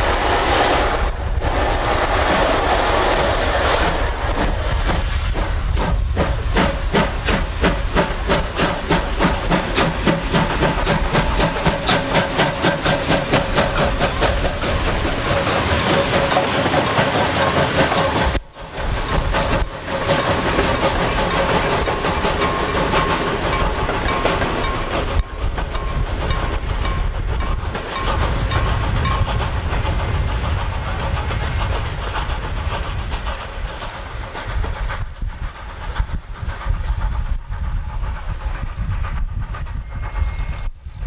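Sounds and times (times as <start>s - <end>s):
steam locomotive rhythmic beat: 0.0s - 40.8s
hiss of steam: 0.0s - 41.0s.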